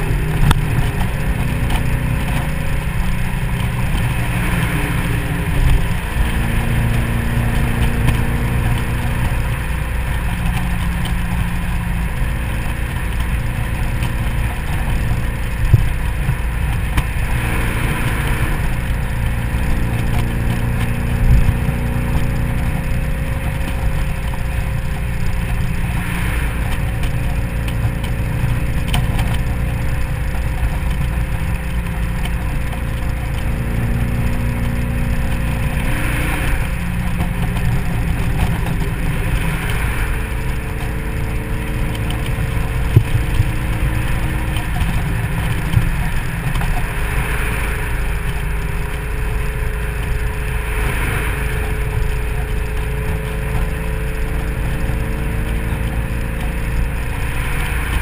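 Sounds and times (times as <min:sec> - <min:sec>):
car engine cruising: 0:00.0 - 0:58.0
road rumble: 0:00.0 - 0:58.0
wind on microphone: 0:00.0 - 0:58.0.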